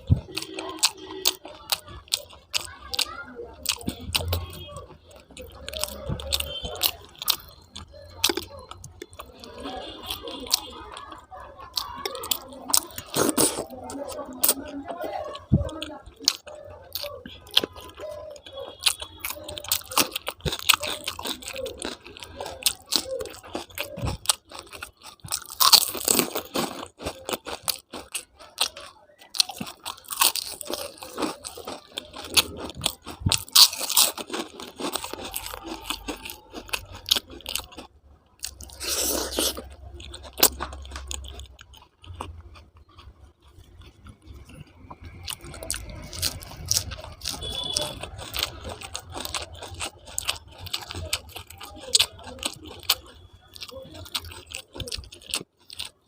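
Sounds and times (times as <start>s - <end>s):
person crunching and chewing food: 0.0s - 56.0s.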